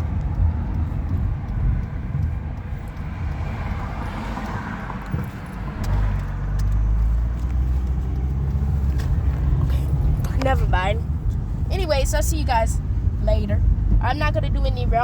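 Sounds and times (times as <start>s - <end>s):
heavy vehicle engine rumble: 0.0s - 15.0s.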